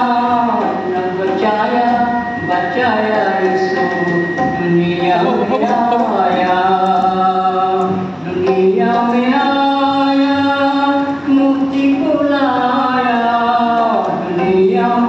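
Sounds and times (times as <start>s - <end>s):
man singing into microphone: 0.0s - 15.0s
tabla playing: 0.0s - 15.0s.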